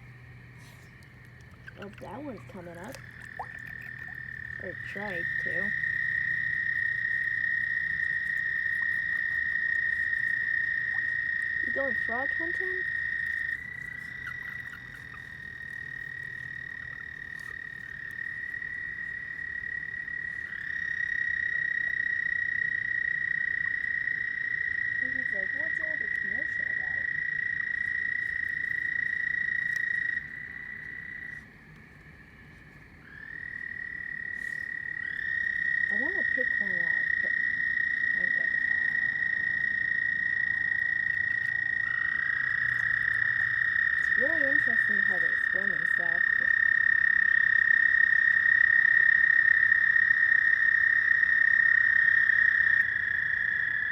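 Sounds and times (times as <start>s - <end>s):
frogs trilling: 0.0s - 53.9s.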